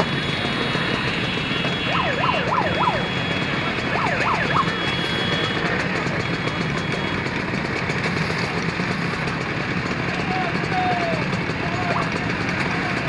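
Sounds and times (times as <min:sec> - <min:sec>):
scooter engines idling: 0:00.0 - 0:13.0.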